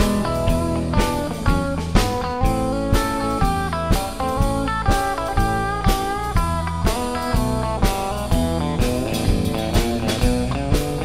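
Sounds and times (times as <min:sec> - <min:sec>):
drum kit steady beat: 0:00.0 - 0:11.0.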